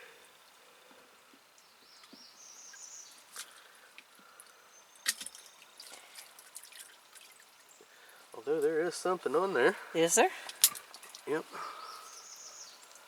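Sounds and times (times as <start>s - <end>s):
water dripping: 0.2s - 12.2s.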